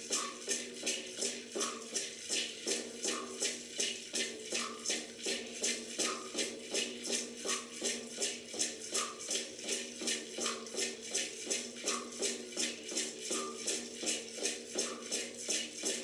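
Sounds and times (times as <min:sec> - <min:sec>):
shaker rattling: 0:00.0 - 0:16.0.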